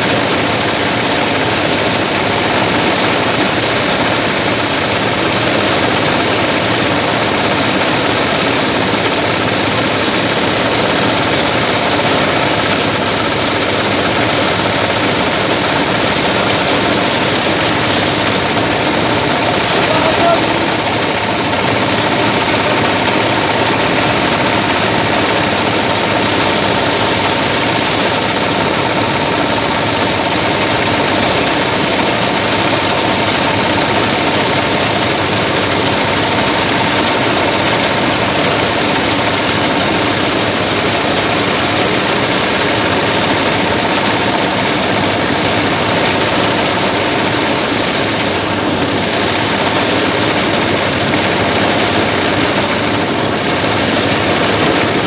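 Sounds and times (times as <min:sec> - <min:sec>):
engine driving thresher: 0:00.0 - 0:55.0.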